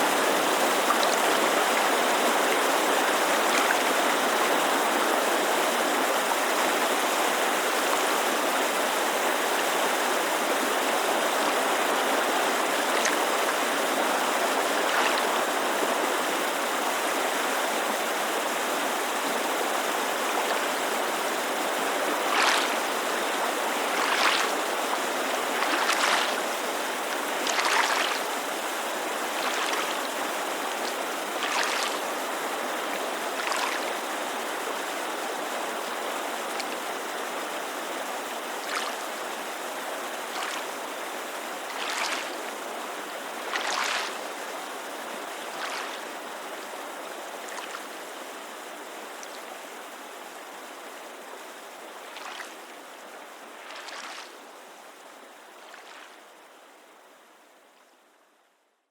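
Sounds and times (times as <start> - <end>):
water lapping against shore: 0.0 - 49.6, 51.6 - 56.8
creek rushing: 0.0 - 57.0.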